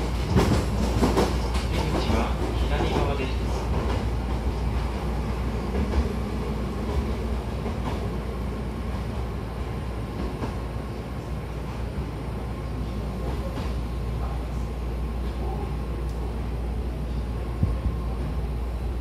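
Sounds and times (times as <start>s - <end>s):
electric train running rumble: 0.0s - 19.0s.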